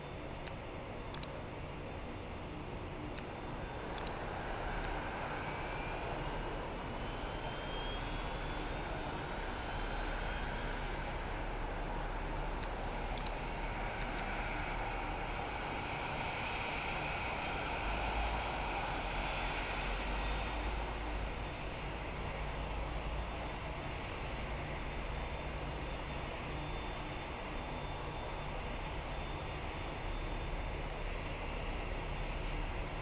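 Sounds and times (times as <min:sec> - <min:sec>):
faint engine whine: 0:00.0 - 0:33.0.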